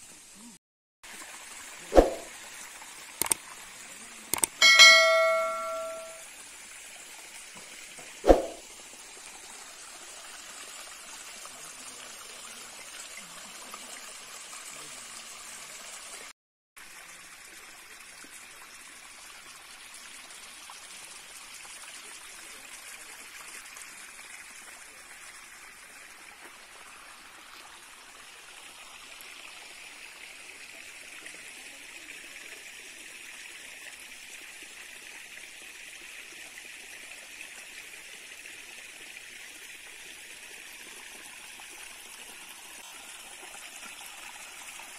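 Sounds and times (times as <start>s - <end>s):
stream water rushing and trickling: 1.0s - 44.9s.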